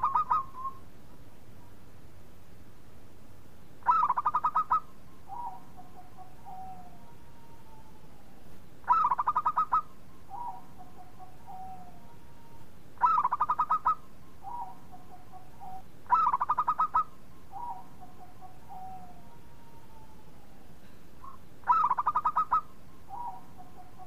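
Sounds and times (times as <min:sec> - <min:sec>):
zebra dove cooing song: 0:00.0 - 0:02.0, 0:03.8 - 0:24.0.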